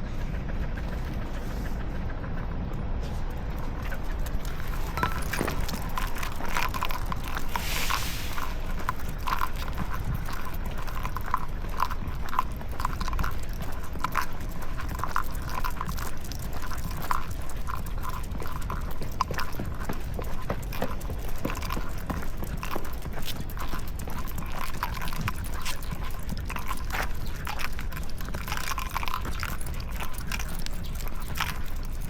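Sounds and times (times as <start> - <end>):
steady low rumble: 0.0 - 32.0
footsteps on pavement: 3.0 - 32.0.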